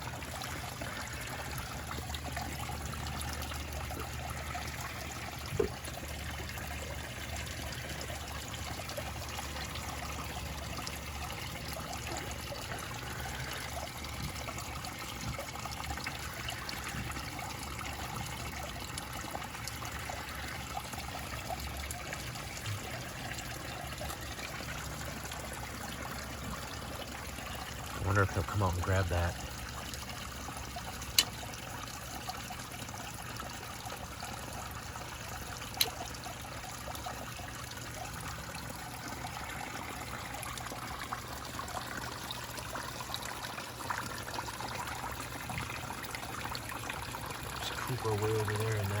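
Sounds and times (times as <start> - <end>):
pond waterfall trickling: 0.0 - 49.0.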